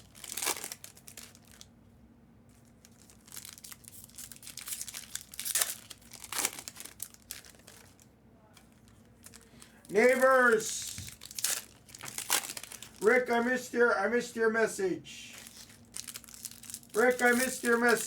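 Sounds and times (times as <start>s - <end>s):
foil wrappers crinkling and tearing: 0.0s - 1.7s, 2.5s - 13.4s, 15.2s - 18.0s.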